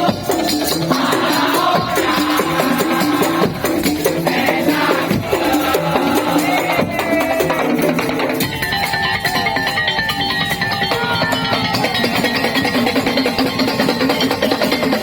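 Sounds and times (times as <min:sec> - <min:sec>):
music with hand percussion: 0:00.0 - 0:15.0.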